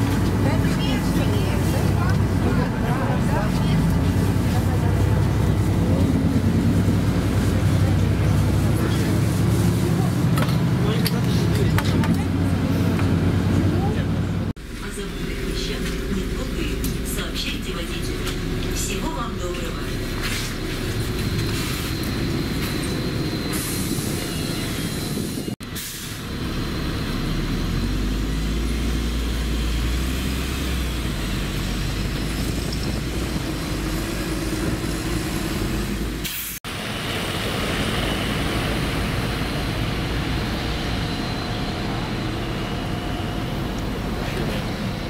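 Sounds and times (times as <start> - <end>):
low traffic rumble: 0.0 - 45.0.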